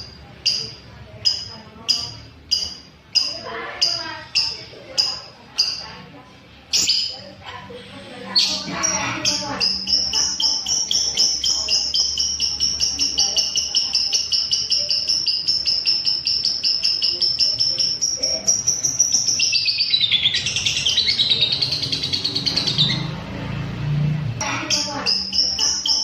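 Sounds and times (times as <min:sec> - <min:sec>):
lovebird chattering trill: 0:00.0 - 0:06.1, 0:06.7 - 0:07.5, 0:08.3 - 0:23.2, 0:24.4 - 0:26.0.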